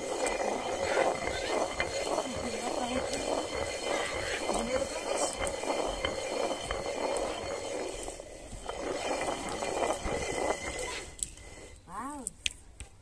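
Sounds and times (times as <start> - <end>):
millstone grinding rumble: 0.0 - 11.8.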